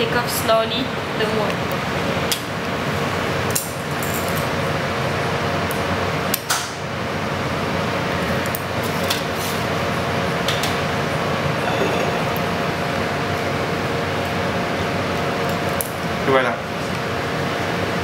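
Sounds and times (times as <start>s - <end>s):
kitchen ventilation hum: 0.0s - 18.0s.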